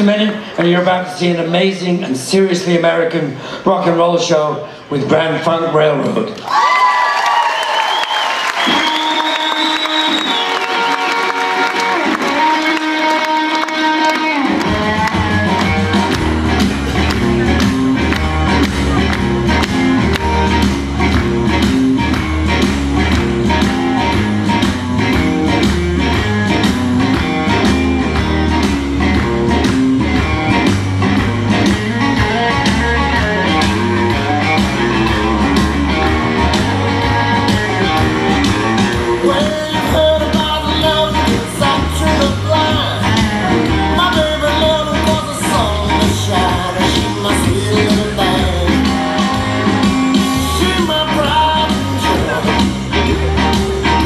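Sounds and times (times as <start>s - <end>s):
rock music with electric guitar: 8.8s - 54.0s.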